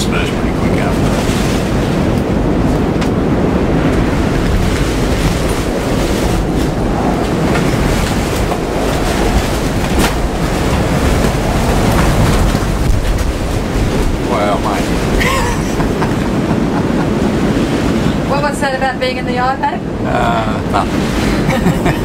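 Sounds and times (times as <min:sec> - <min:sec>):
strong wind and heavy rain: 0:00.0 - 0:22.0
wind blasting microphone: 0:00.0 - 0:22.0.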